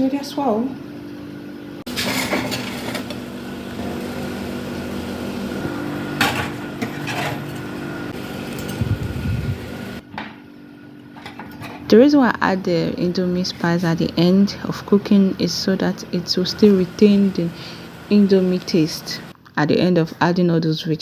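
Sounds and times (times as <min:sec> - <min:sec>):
steady hum and hiss: 0:00.0 - 0:20.6.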